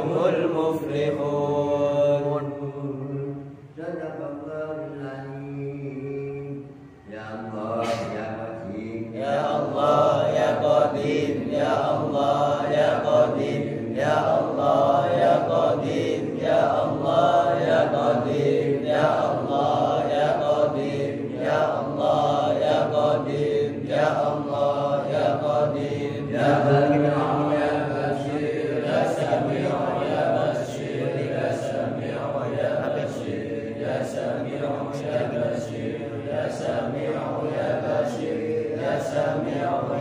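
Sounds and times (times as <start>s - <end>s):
man chanting into microphone: 0.0s - 40.0s.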